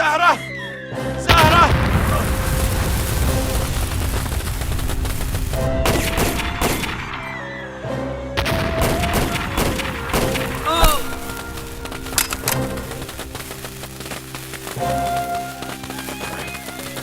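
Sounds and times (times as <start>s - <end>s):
dramatic background music: 0.0s - 17.0s
gunshots and booms: 1.3s - 7.4s, 8.4s - 17.0s.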